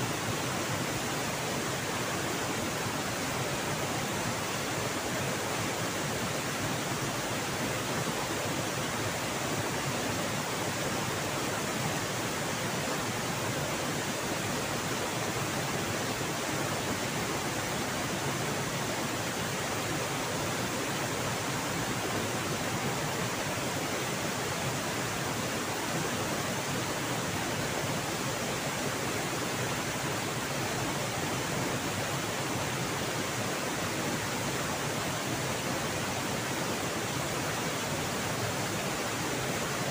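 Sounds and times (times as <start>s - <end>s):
river rushing at waterfall: 0.0s - 39.9s.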